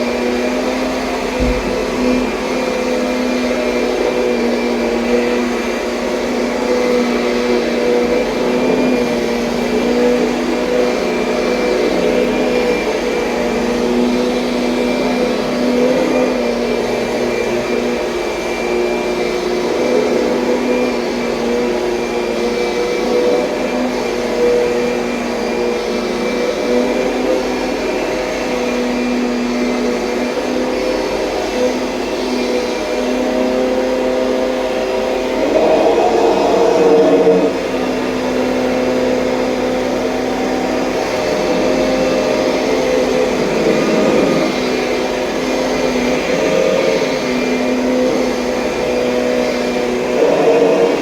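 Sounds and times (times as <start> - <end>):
upright vacuum cleaner running: 0.0 - 51.0.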